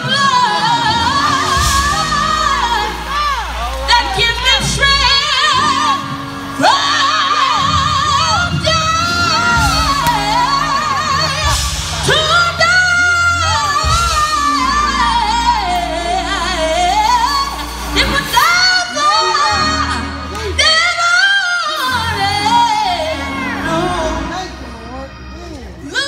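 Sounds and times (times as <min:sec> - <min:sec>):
live band playing: 0:00.0 - 0:26.0.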